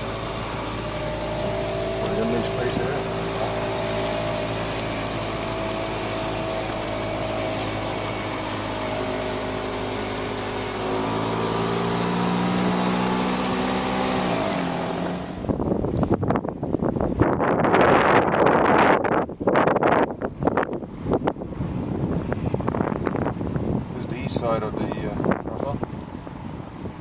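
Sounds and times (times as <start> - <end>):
engine running: 0.0 - 27.0
wind buffeting microphone: 0.0 - 27.0.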